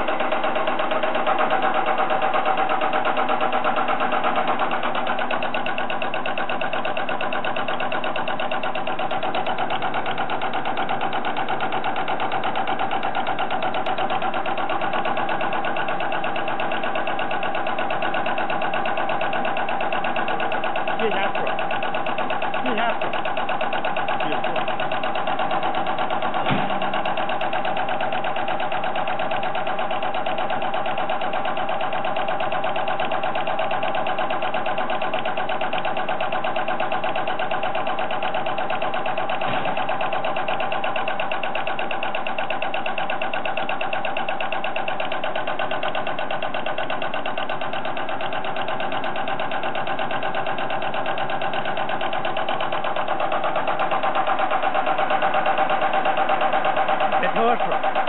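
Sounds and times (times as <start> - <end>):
fast mechanical clatter: 0.0 - 58.0.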